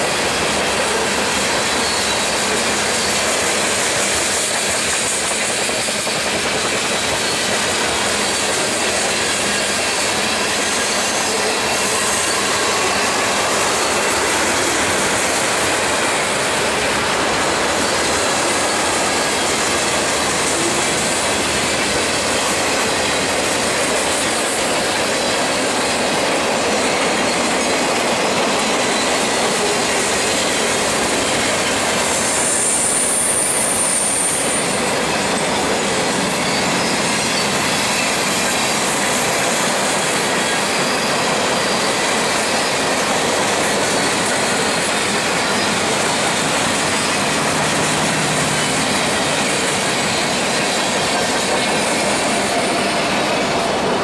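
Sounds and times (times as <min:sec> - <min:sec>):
freight train wheels rumbling: 0:00.0 - 0:54.0
high thin wheel squeal: 0:00.8 - 0:05.7, 0:06.6 - 0:25.7, 0:28.6 - 0:54.0.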